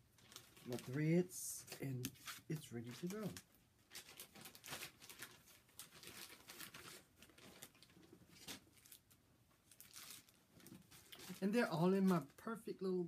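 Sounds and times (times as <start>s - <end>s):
packaging rustling and crinkling: 0.0s - 12.4s.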